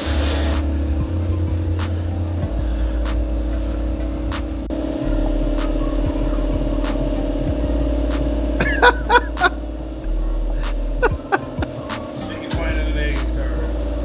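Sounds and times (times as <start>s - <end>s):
synth tones over low bass: 0.0s - 14.0s.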